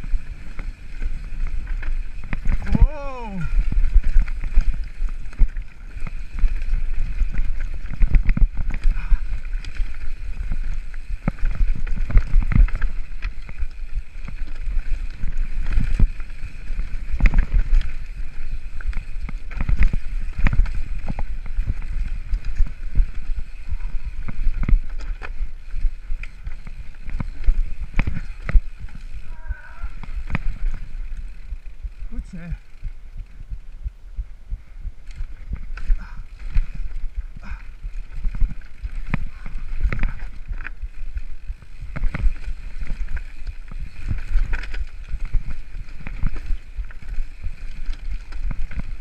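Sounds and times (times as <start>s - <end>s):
bike rattling over stones: 0.0s - 33.9s, 34.9s - 49.0s
wind rumble on microphone: 0.0s - 49.0s.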